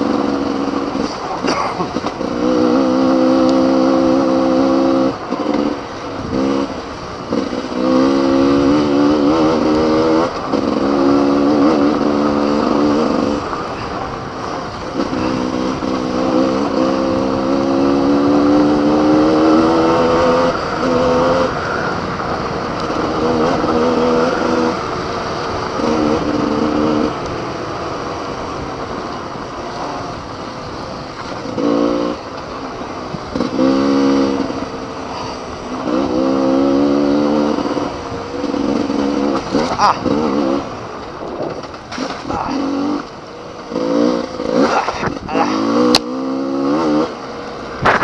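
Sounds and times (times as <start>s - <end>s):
motorcycle engine revving: 0.0s - 48.0s
wind noise: 0.0s - 48.0s.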